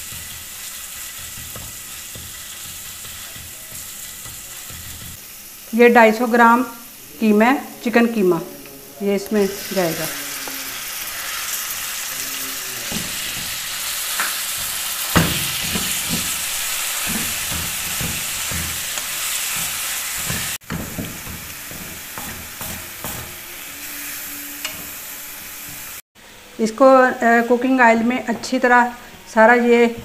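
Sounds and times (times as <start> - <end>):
meat sizzling in oil: 0.0 - 8.2, 9.2 - 26.0.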